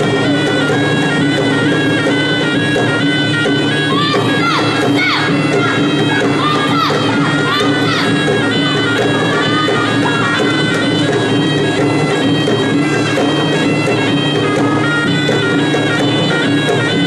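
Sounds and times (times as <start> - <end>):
double-reed oboe melody: 0.0 - 17.0
drums: 0.0 - 17.0.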